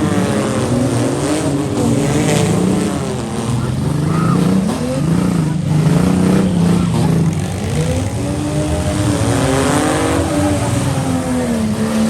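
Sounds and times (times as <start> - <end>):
several engines revving: 0.0 - 12.0.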